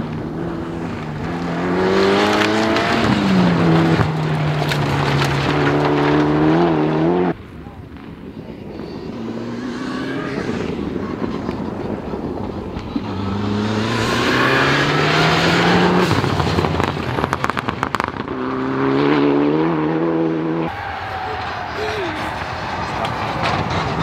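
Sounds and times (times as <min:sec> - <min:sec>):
rally car engine accelerating: 0:00.0 - 0:07.4, 0:09.1 - 0:21.7
engine crackles: 0:00.0 - 0:18.9, 0:20.7 - 0:24.0.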